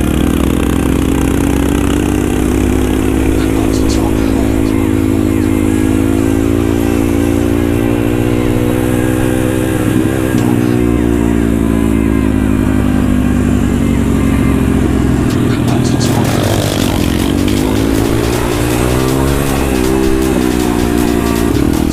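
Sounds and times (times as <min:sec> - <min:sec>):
small motorbike engine running: 0:00.0 - 0:21.9.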